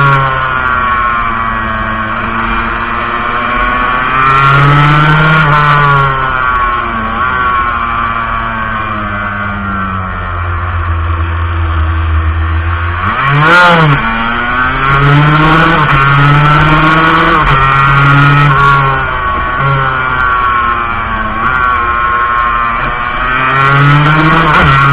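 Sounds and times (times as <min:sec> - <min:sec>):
two-stroke motorcycle engine revving: 0:00.0 - 0:24.9.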